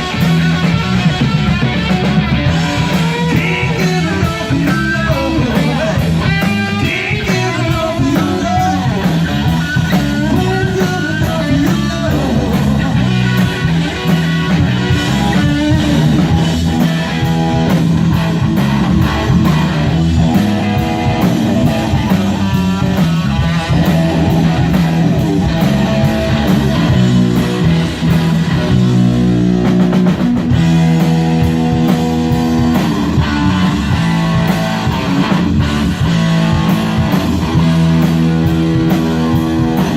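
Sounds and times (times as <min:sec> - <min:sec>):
bass guitar: 0:00.0 - 0:39.9
drums: 0:00.0 - 0:39.9
electric guitar bending notes: 0:00.0 - 0:39.9.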